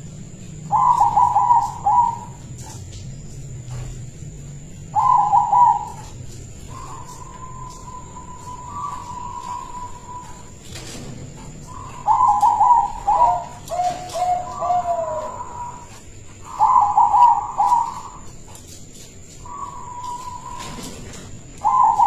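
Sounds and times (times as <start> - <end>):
dove cooing: 0.0 - 22.0
faint high whine: 0.0 - 22.0.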